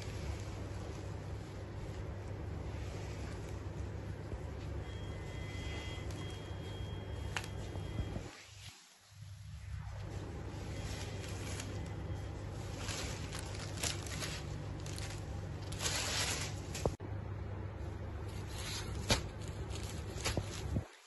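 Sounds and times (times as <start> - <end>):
silk cloth rustling: 0.0 - 17.0
low hum: 0.0 - 20.8.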